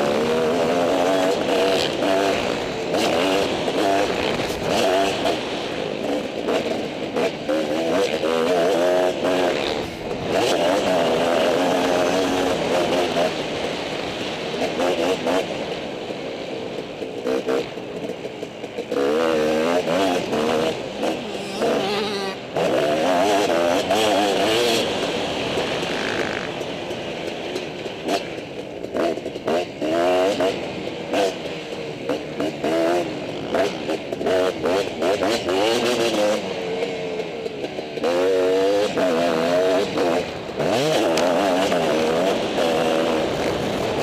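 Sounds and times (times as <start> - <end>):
dirt bike engine revving: 0.0 - 16.2, 17.1 - 44.0.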